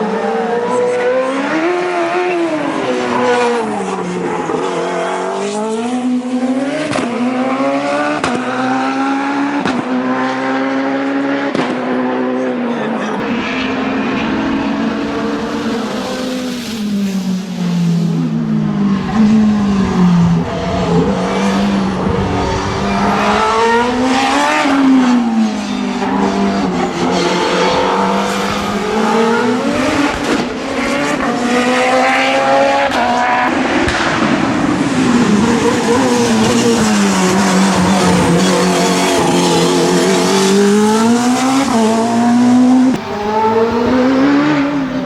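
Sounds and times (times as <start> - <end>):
racing car engine at high revs: 0.0 - 45.0.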